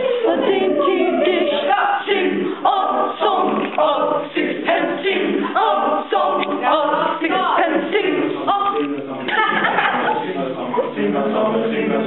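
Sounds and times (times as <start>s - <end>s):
choir singing a cappella: 0.0s - 12.0s.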